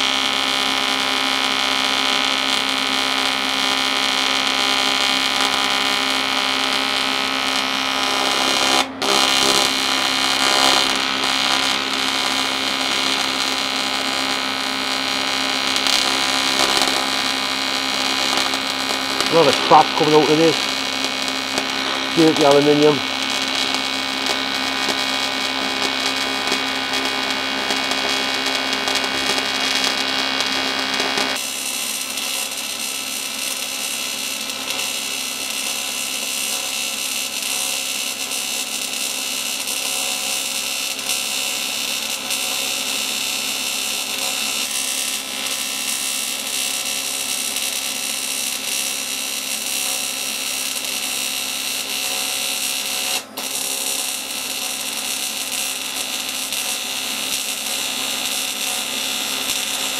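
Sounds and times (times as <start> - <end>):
welding arc buzzing and hissing: 0.0 - 59.9.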